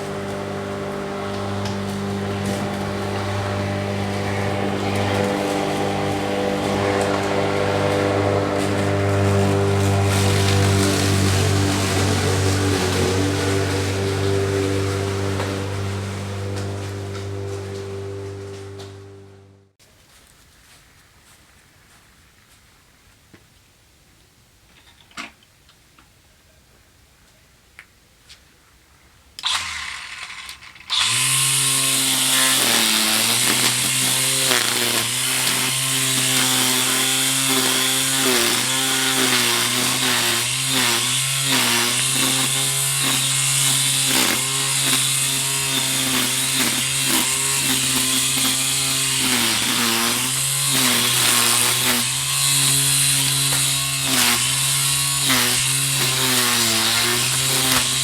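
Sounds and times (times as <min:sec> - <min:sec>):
two-stroke engine under load: 0:00.0 - 0:19.8, 0:29.4 - 0:58.0.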